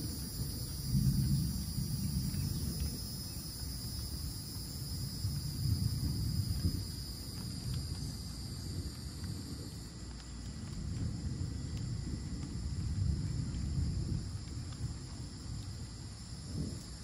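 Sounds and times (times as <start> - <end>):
crickets droning: 0.0 - 17.0.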